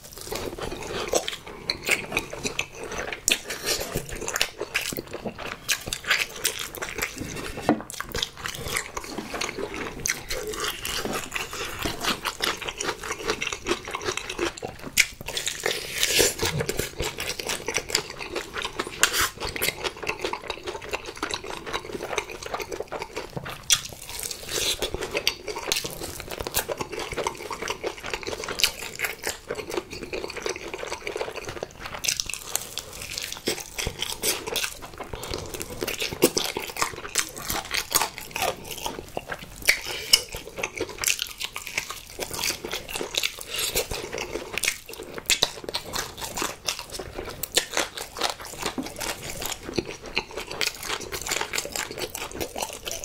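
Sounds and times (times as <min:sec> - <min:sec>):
close chewing and biting: 0:00.0 - 0:53.0.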